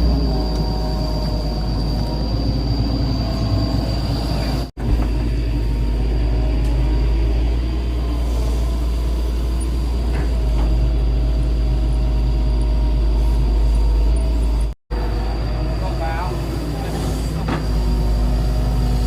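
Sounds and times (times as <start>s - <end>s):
excavator diesel engine rumbling: 0.0s - 19.0s.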